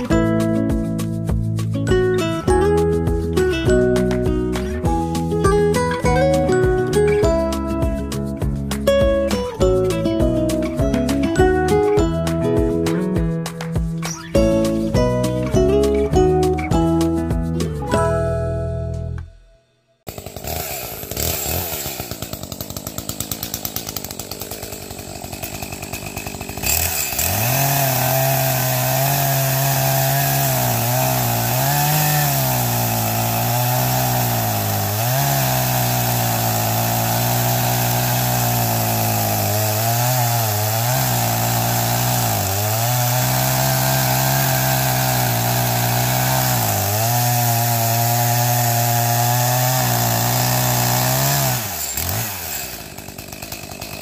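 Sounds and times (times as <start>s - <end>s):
chainsaw cutting wood: 0.0s - 17.0s, 20.0s - 54.0s.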